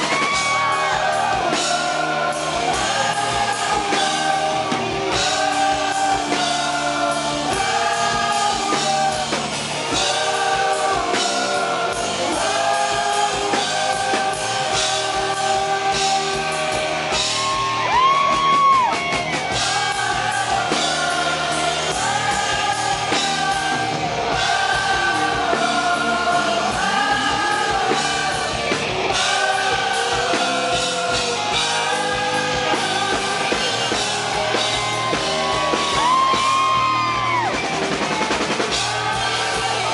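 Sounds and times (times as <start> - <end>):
man singing into a microphone: 0.0 - 17.4, 19.6 - 34.8
live rock band: 0.0 - 39.9.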